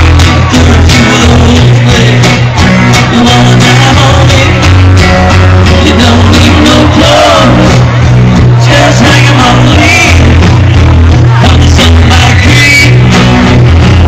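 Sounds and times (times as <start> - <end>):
person singing: 0.0 - 4.9, 5.6 - 10.6, 11.3 - 13.5
electric guitar: 0.0 - 14.0
heavy bass: 0.0 - 14.0
live country-rock band: 0.0 - 14.0.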